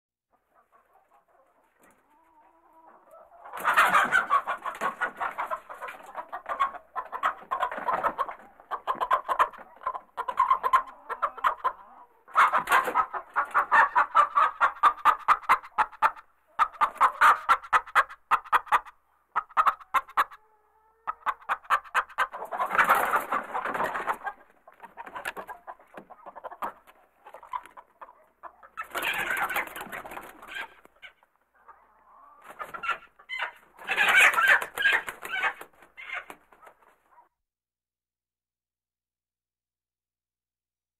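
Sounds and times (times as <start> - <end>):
chickens clucking and squawking: 0.3 - 37.3.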